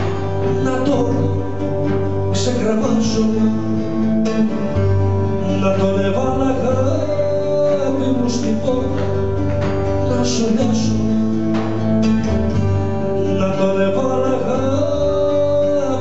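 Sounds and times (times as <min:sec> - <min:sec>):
lute and acoustic guitar playing: 0:00.0 - 0:16.0.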